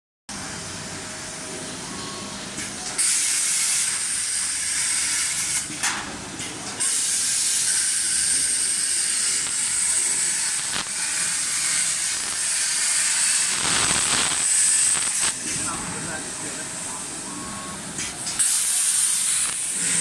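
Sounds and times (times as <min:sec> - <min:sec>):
plasma torch hissing: 0:03.0 - 0:05.9, 0:06.8 - 0:20.0.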